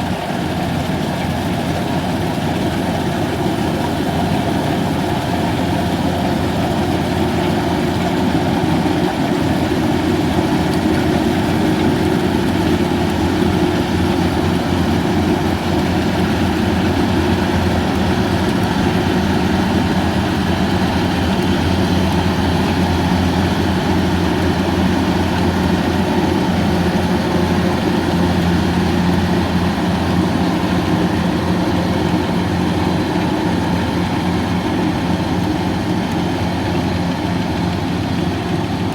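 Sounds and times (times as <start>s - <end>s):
harvester engine droning: 0.0s - 38.9s.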